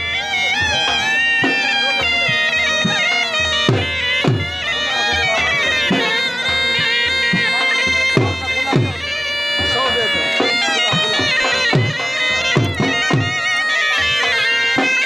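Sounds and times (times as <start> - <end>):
bagpipes playing: 0.0 - 15.0
drum beats: 0.0 - 15.0.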